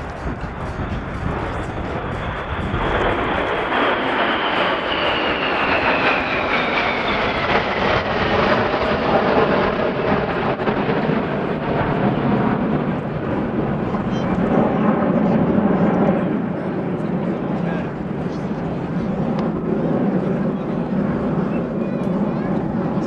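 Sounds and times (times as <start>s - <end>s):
high jet whine falling in pitch: 0.0s - 23.0s
jet engines roaring: 0.0s - 23.0s.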